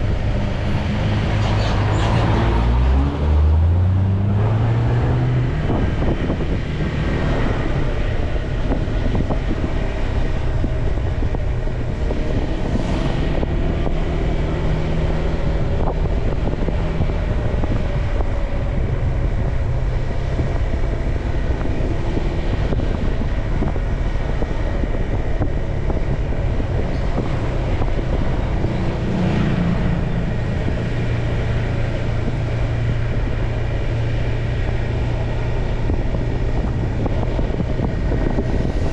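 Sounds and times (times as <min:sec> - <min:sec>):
wind noise on microphone: 0:00.0 - 0:38.9.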